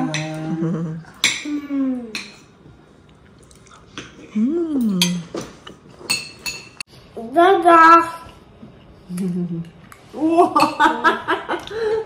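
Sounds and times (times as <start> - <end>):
voices at a dinner table: 0.0 - 12.0.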